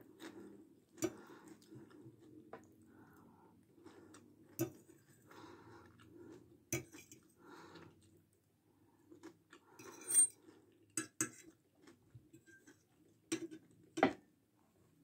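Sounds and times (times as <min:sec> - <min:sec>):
soft chewing: 0:00.0 - 0:14.0.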